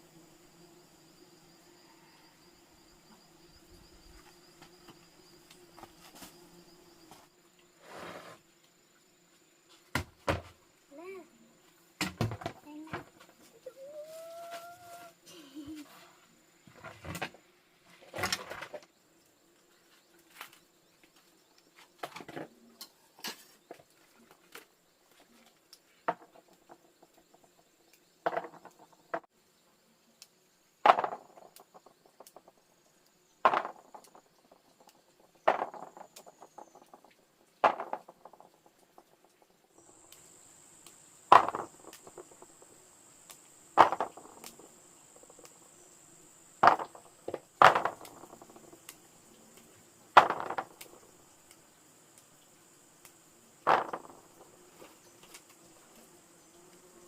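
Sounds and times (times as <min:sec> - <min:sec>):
high insect buzz: 0:00.0 - 0:57.0.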